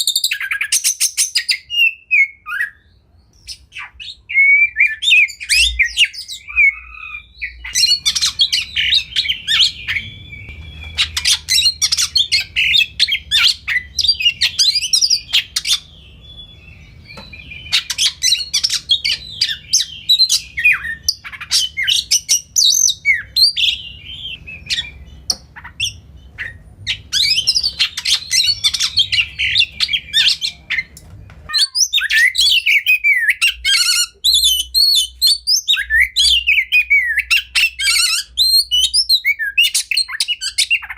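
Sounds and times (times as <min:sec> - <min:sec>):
bird whistled song: 0:00.0 - 0:40.9.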